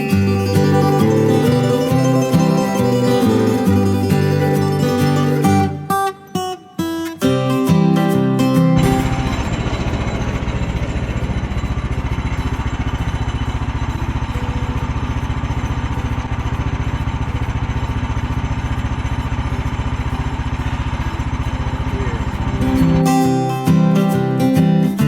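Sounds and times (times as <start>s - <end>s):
small gasoline engine running: 0.0s - 5.8s, 8.8s - 25.0s.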